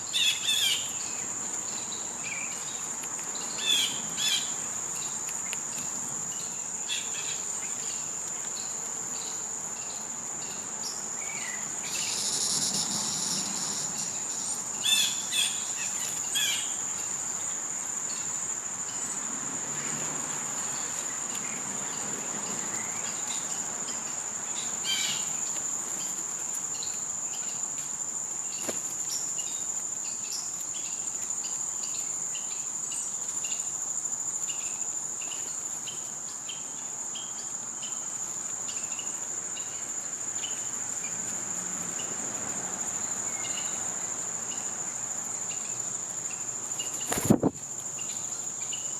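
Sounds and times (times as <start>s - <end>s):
insect chorus drone: 0.0s - 48.9s.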